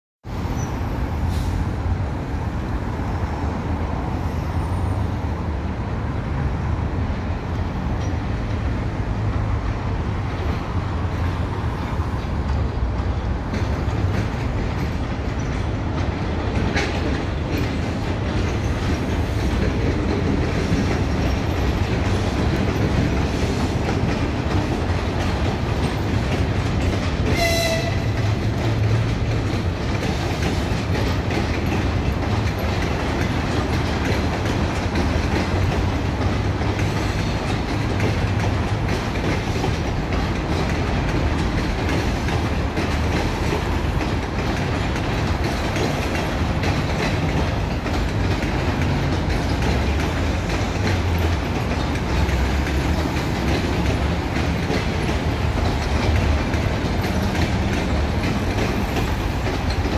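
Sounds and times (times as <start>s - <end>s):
train coaches rumbling: 0.2s - 59.9s
wheels clattering over rail joints: 7.4s - 59.9s.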